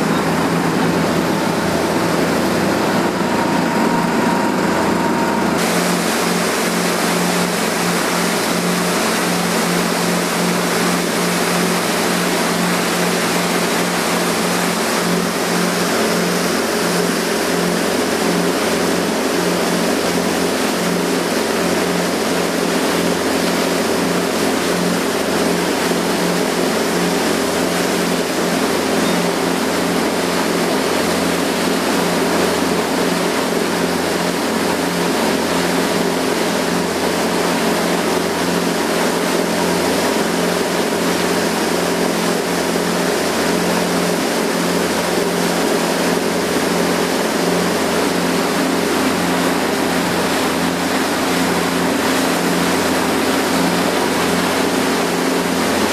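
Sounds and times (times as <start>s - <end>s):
boat engine droning: 0.0s - 55.9s
hiss of water and wind: 0.0s - 55.9s.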